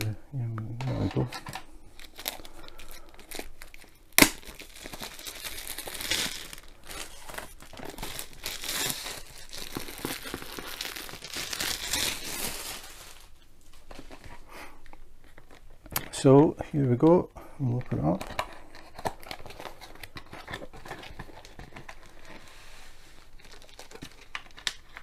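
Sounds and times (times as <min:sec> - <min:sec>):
cardboard and paper rustling: 0:00.8 - 0:14.4, 0:18.0 - 0:25.0.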